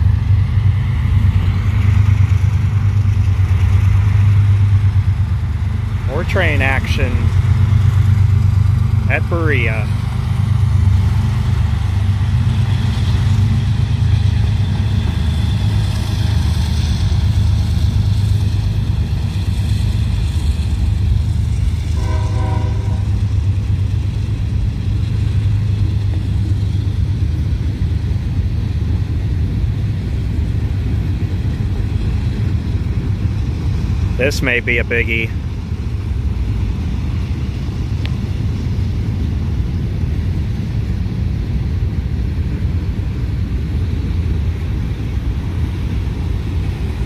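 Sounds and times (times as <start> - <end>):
freight train rumbling: 0.0 - 47.0.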